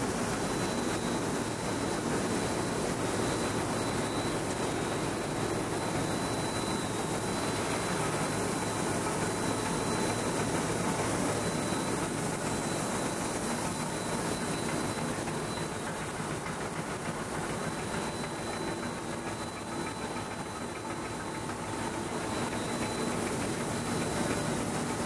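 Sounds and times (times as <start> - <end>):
printing press running: 0.0 - 25.0.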